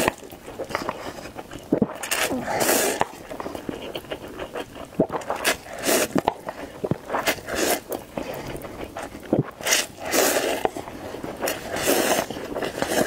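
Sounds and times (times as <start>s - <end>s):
person slurping noodles: 0.0s - 13.0s
wet chewing clicks: 0.0s - 13.0s.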